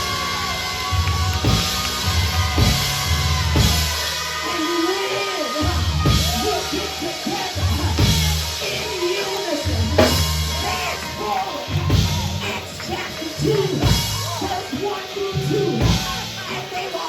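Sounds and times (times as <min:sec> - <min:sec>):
worship band with drums and bass: 0:00.0 - 0:17.0
person singing: 0:02.6 - 0:17.0.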